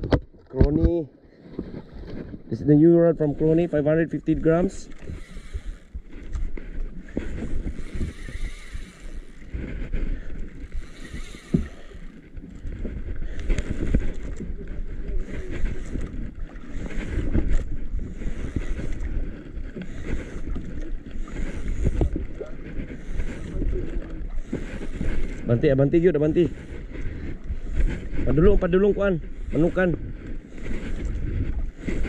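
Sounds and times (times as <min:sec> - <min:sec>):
water washing against boat hull: 0:00.0 - 0:32.0
wind buffeting microphone: 0:00.0 - 0:32.0
steady low rumble: 0:01.8 - 0:32.0.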